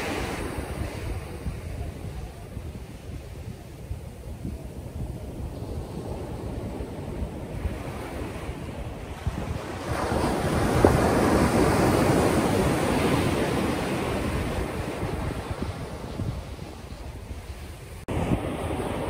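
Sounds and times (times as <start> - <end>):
ocean wave breaking: 0.0 - 19.0
wind buffeting microphone: 0.0 - 19.0.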